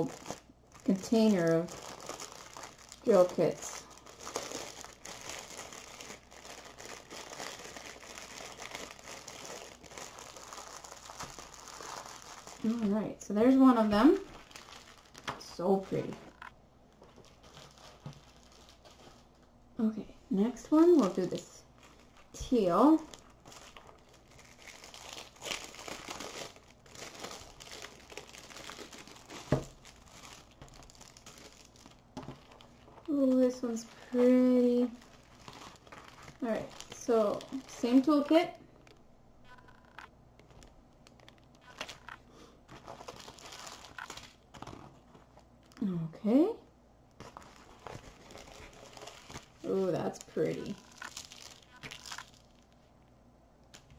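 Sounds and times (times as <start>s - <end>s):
plastic bags crinkling: 0.0s - 19.5s, 20.5s - 39.0s, 40.4s - 45.9s, 47.2s - 52.9s.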